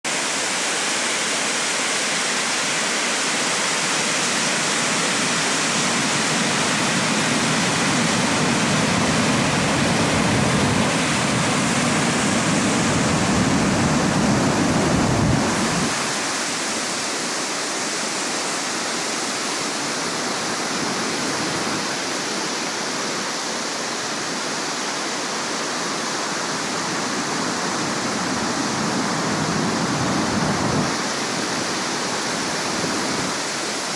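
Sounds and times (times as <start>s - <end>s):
flood water rushing: 0.0s - 33.9s.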